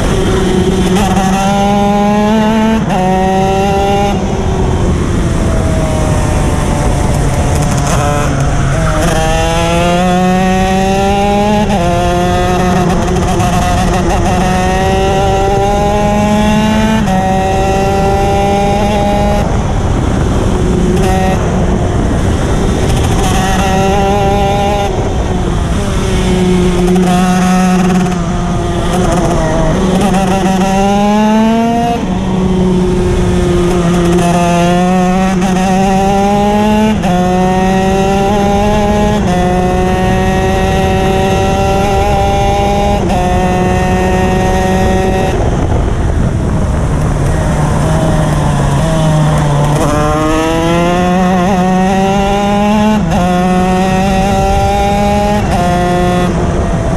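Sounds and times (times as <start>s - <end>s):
kart engine accelerating: 0.0s - 56.9s
wind rushing over microphone: 0.0s - 56.9s.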